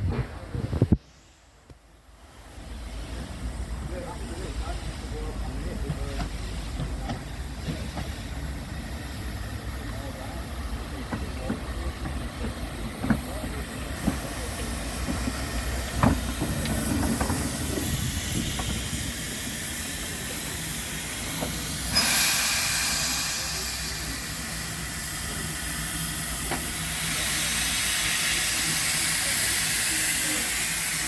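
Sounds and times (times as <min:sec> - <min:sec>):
steam hissing: 0:00.1 - 0:31.0.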